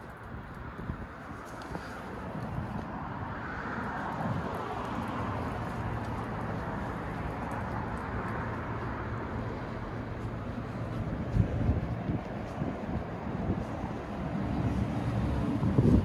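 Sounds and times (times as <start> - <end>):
vehicle traffic rumble: 0.0 - 16.0.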